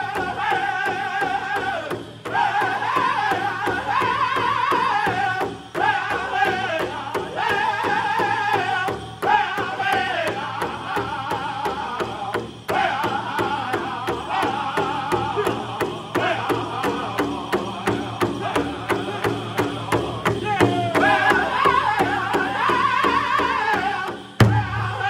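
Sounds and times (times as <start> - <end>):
group singing in high voices: 0.0 - 25.0
large drum steady beat: 0.0 - 25.0.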